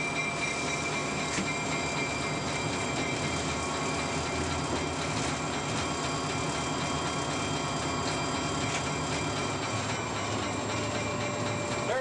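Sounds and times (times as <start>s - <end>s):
locomotive engine: 0.0s - 12.0s
wheels on rails: 0.0s - 12.0s.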